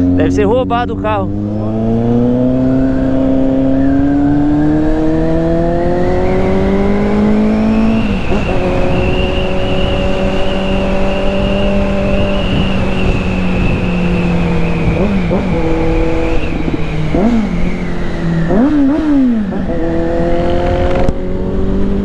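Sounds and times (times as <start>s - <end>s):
high whine: 0.0s - 19.8s
motorcycle engine accelerating: 0.0s - 22.0s
wind noise: 0.0s - 22.0s.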